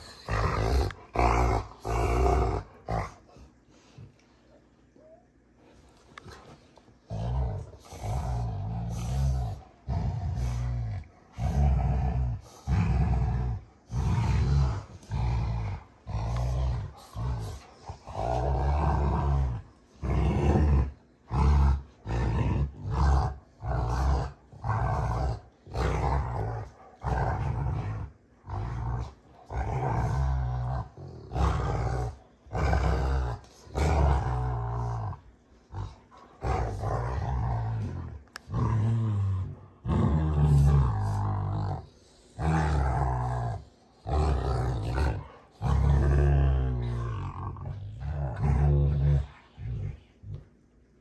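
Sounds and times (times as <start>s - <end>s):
dogs growling: 0.0s - 4.1s, 6.0s - 50.5s.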